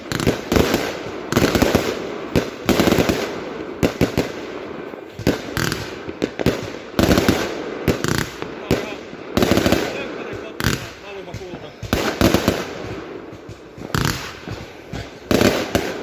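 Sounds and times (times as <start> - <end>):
firework bangs and crackling: 0.0 - 16.0.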